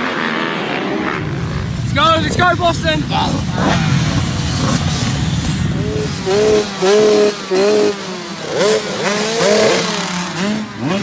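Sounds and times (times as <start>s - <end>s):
dirt bike engines revving: 1.0s - 11.0s.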